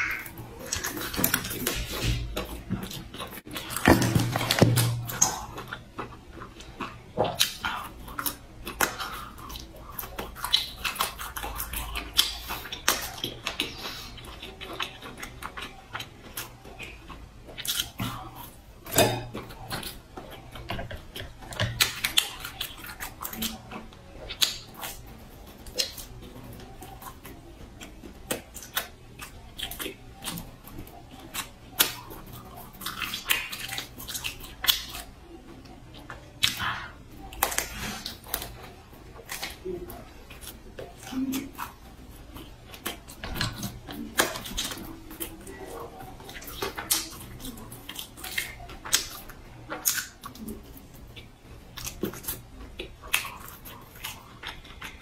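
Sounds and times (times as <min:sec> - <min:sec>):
chewing and biting meat: 0:00.0 - 0:55.0.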